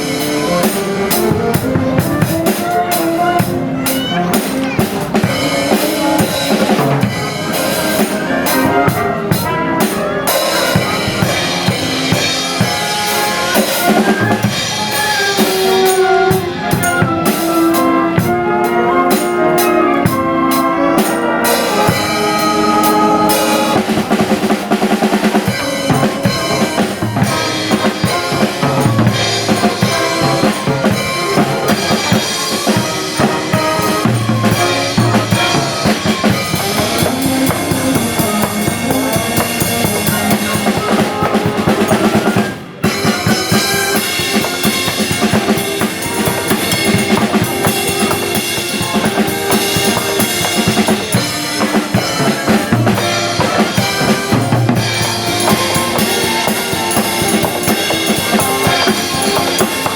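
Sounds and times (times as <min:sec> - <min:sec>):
drum kit beat: 0:00.0 - 0:59.9
live band music: 0:00.0 - 0:59.9.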